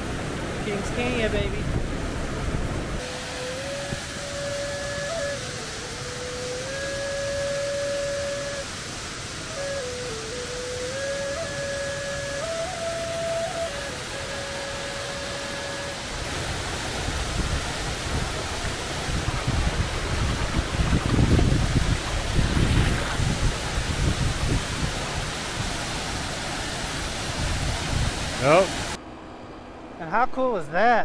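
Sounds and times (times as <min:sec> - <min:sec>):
wind buffeting microphone: 0:00.0 - 0:29.0
water rushing: 0:00.0 - 0:29.1.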